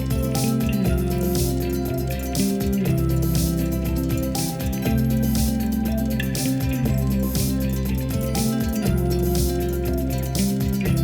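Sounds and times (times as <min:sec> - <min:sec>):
background music with guitar: 0:00.0 - 0:11.0.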